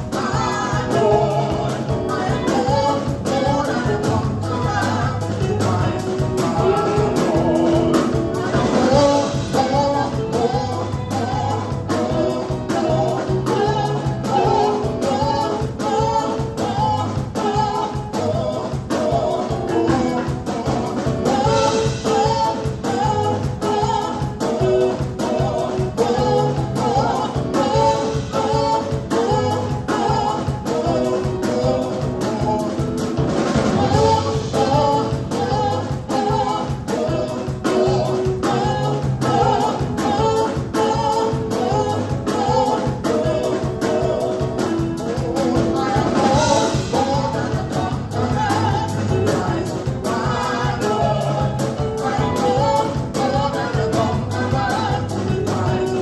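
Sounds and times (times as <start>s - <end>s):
bass line: 0.0s - 56.0s
gospel band with singers: 0.0s - 56.0s
steady drum beat: 0.0s - 56.0s.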